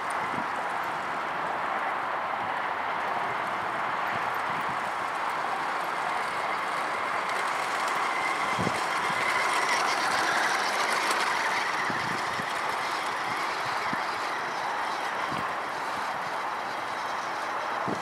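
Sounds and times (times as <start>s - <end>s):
toy truck electric motor whining: 3.3s - 18.0s.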